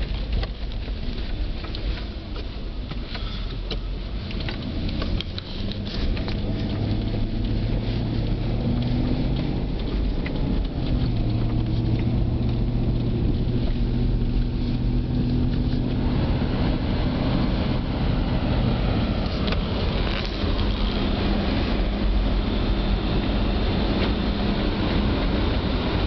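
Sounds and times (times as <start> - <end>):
car engine hum: 0.0 - 26.0
tyre and road noise hiss: 0.0 - 26.0.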